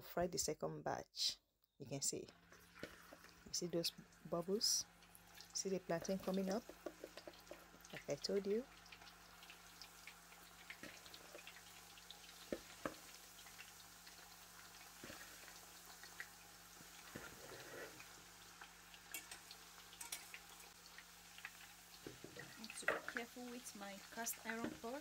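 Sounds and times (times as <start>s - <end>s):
food deep-frying in oil: 2.3s - 25.0s.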